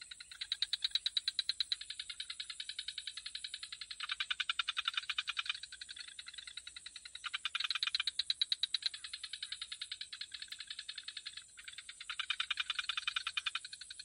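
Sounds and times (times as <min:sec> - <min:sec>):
frogs calling in rattling pulses: 0:00.0 - 0:14.0.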